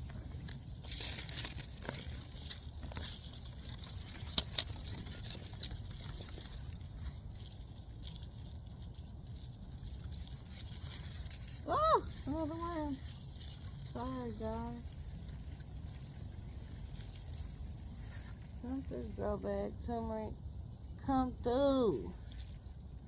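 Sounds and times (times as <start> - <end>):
hands rummaging through soil: 0.0 - 20.3
low background rumble: 0.0 - 23.0.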